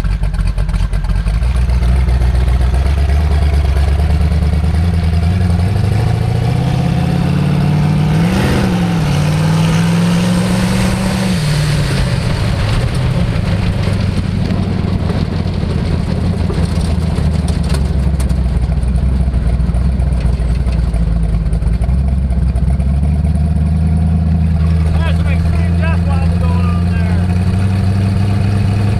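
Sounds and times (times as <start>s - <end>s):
engine revving: 0.0s - 28.9s.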